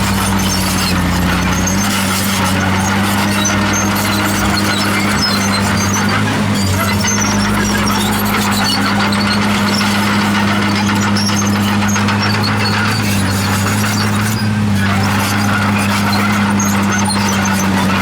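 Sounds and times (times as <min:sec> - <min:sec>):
bulldozer diesel engine running: 0:00.0 - 0:18.0
steel tracks squealing: 0:00.0 - 0:18.0.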